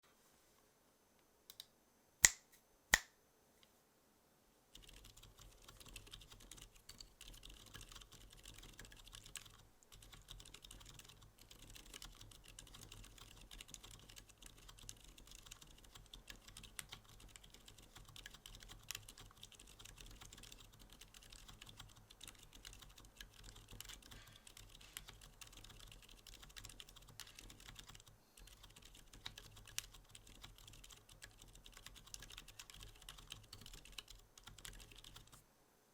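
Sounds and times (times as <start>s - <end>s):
muted keyboard typing: 4.7s - 35.4s
sharp keyboard clicks: 4.8s - 35.4s.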